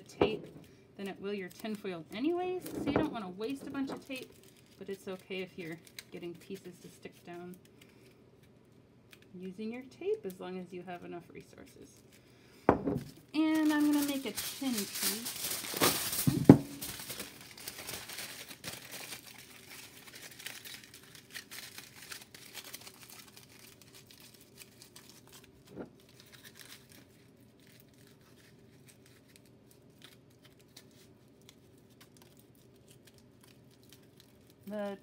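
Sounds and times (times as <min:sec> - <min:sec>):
aluminium foil crumpling: 0:00.0 - 0:12.3, 0:13.0 - 0:35.0.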